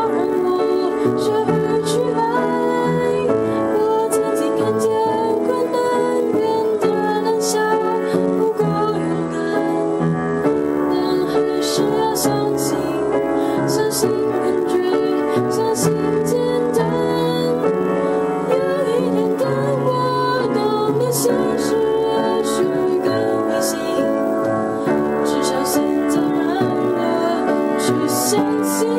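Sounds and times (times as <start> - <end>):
keyboard chords: 0.0 - 28.9
woman singing: 0.0 - 28.9.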